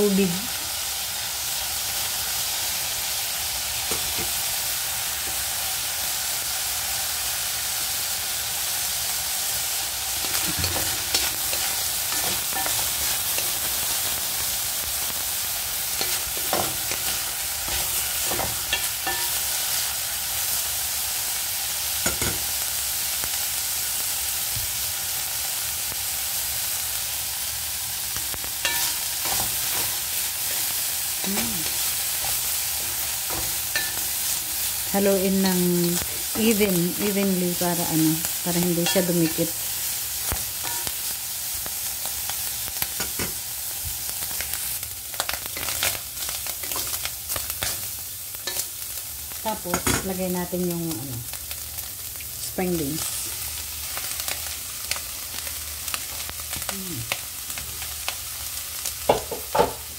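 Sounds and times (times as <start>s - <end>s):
bacon sizzling in a pan: 0.0s - 59.9s.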